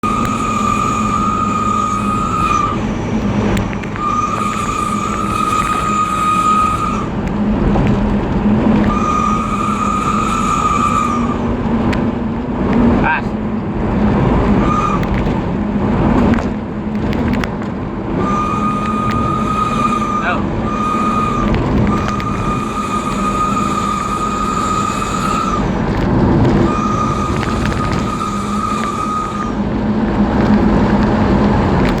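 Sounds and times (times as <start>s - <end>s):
exhaust whistle: 0.0s - 13.3s, 14.0s - 32.0s
engine drone: 0.0s - 32.0s.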